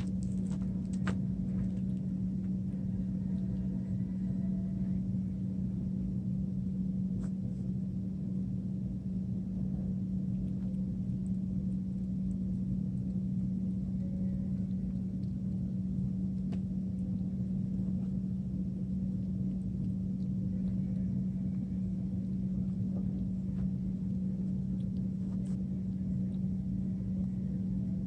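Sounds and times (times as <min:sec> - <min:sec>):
low rumble: 0:00.0 - 0:28.0
steady low hum: 0:00.0 - 0:28.0.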